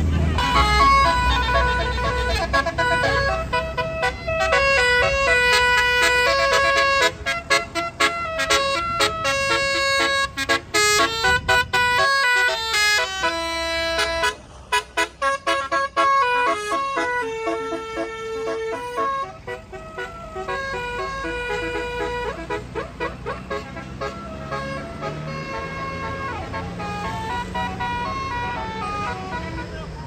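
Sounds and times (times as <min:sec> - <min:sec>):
bus engine rumble: 0:00.0 - 0:30.0
musical bus horn playing a tune: 0:00.0 - 0:30.0.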